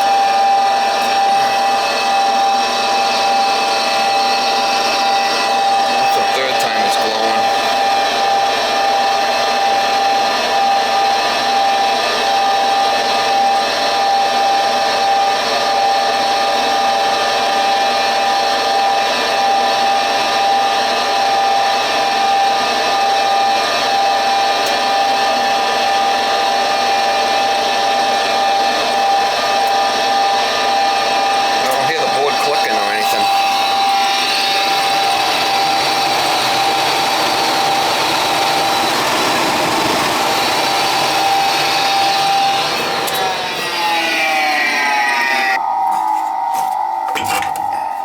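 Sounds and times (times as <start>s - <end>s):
furnace fan motor whine: 0.0s - 48.0s.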